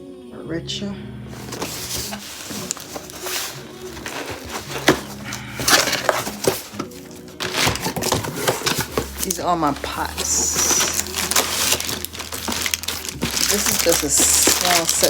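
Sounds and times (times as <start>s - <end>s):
cardboard packaging being unpacked: 1.3s - 15.0s.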